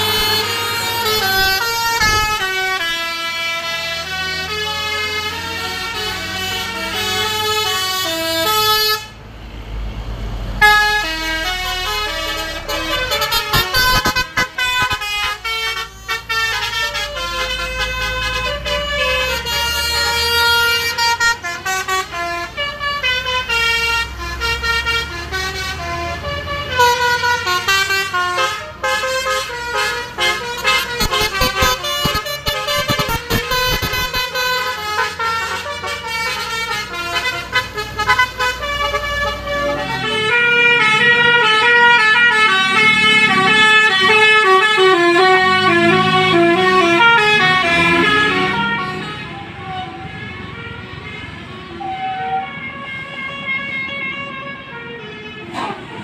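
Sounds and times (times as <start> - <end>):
musical air horns: 0.0 - 9.1, 10.6 - 56.0
bus engines running: 0.0 - 56.0.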